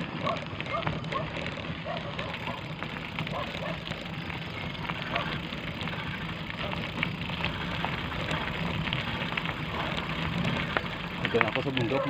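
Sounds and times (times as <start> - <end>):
motorcycle engine at low speed: 0.0 - 12.0
small clicks and rattles: 0.0 - 12.0.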